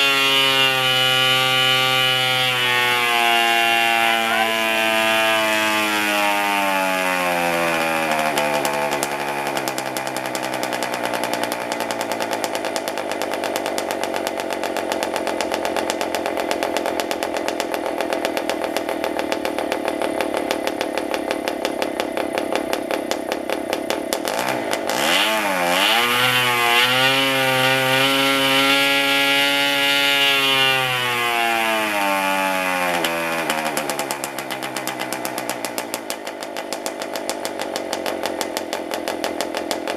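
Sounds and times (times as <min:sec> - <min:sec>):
model diesel engine running: 0:00.0 - 0:30.1, 0:32.4 - 0:39.9.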